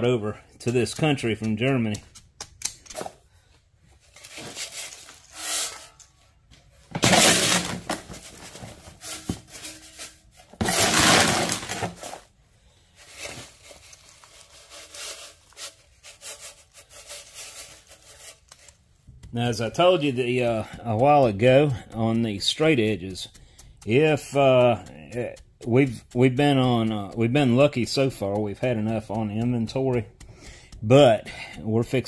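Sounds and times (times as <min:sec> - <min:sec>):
scraping or rustling: 0:03.9 - 0:32.0.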